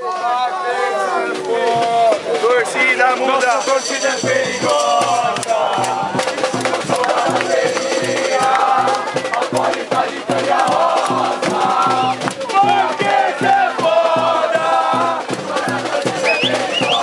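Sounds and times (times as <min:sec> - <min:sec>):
crowd singing a cheer song: 0:00.0 - 0:17.0
drums beating steady rhythm: 0:00.9 - 0:17.0.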